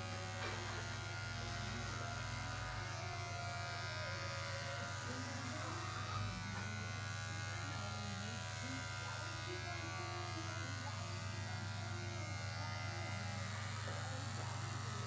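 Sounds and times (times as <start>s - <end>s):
electric hair clipper buzzing: 0.0s - 15.0s.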